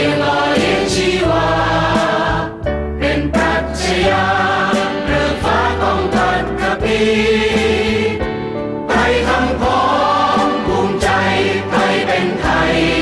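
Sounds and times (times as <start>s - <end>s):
choir singing slow melody: 0.0s - 13.0s
instrumental backing with bass: 0.0s - 13.0s.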